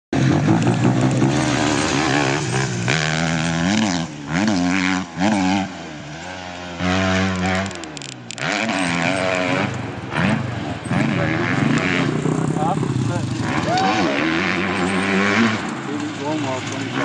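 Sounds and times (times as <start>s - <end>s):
motorcycle engine revving: 0.2s - 17.0s.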